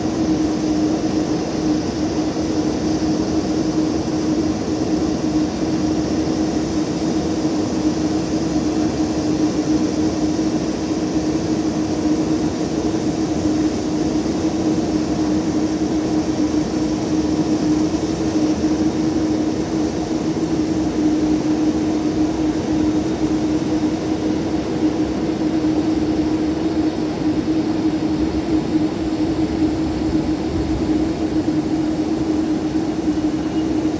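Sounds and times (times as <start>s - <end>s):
jet engine droning: 0.0s - 33.9s.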